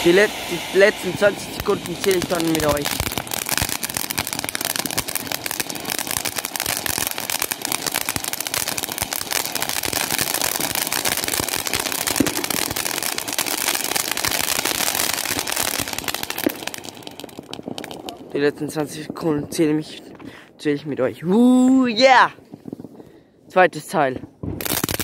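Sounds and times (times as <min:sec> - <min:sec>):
ground firework crackling: 0:00.0 - 0:25.0.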